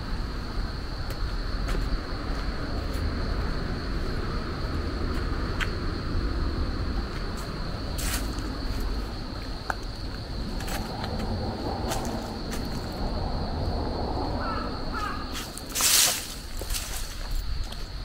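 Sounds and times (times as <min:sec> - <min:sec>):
insect trill: 0:00.0 - 0:18.0
wind rumble on microphone: 0:00.0 - 0:18.0.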